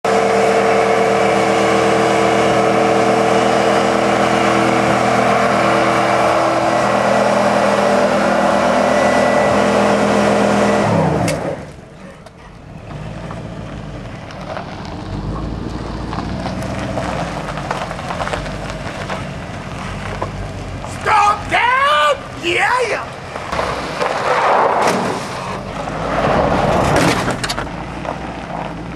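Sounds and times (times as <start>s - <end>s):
truck engine revving high: 0.0s - 28.9s
tyres spinning in dirt: 0.2s - 28.9s.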